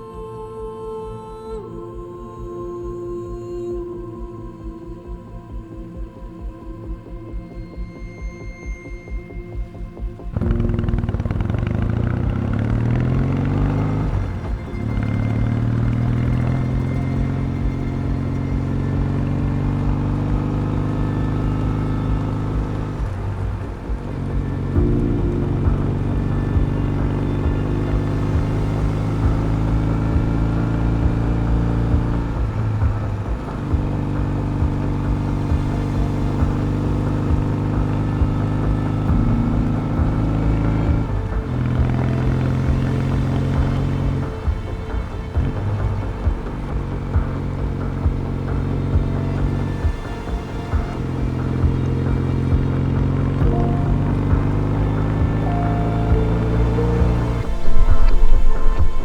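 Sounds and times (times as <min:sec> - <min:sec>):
motorcycle engine cruising: 0:10.3 - 0:59.0.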